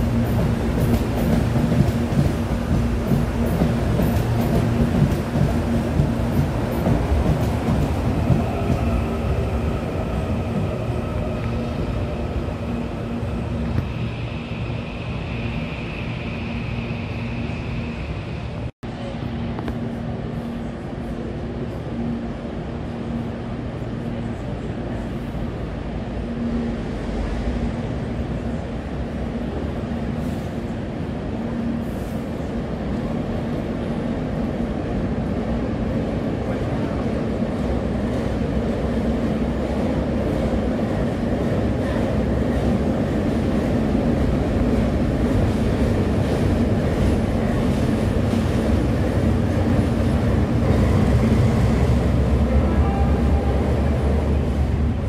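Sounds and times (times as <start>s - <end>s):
train rumble and engine hum: 0.0s - 55.0s.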